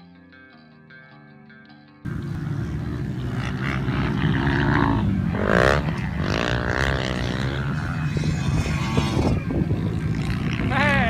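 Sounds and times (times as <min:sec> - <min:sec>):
heavy low rumble: 0:02.1 - 0:11.0
motorcycle engines revving: 0:02.1 - 0:11.0.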